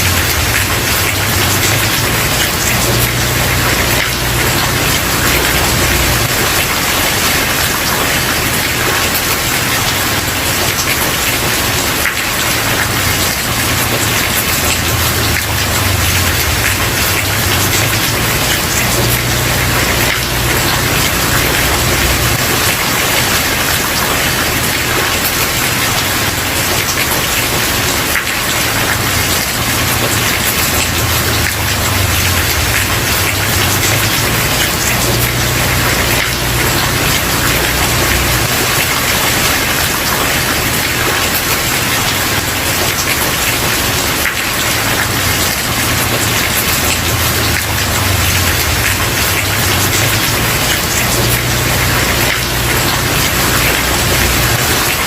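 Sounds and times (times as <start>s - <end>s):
rain on a wooden porch: 0.0s - 55.0s.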